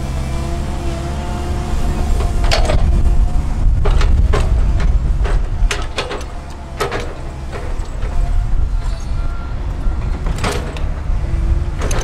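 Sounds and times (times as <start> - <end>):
diesel engine low rumble: 0.0 - 12.0
hydraulic whine: 0.0 - 12.0
excavator bucket clanks: 2.0 - 12.0.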